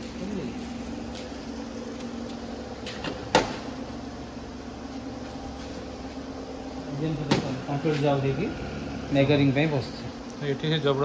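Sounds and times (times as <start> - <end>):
factory machinery humming: 0.0 - 11.0.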